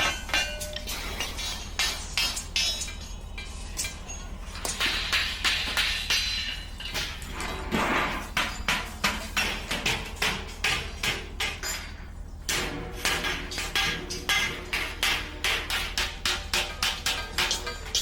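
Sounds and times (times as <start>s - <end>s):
metal knocks and clanks: 0.0s - 18.0s.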